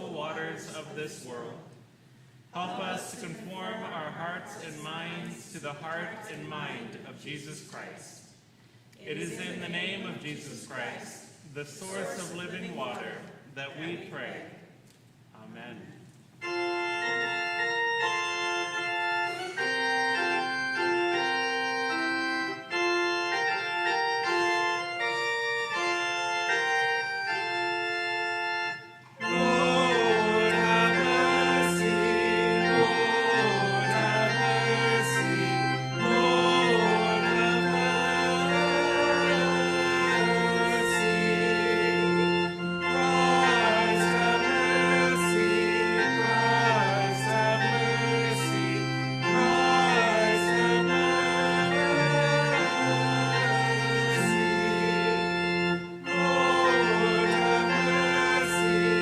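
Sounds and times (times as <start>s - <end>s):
organ playing sustained chords: 0.0s - 7.6s, 9.0s - 14.6s, 16.4s - 59.0s.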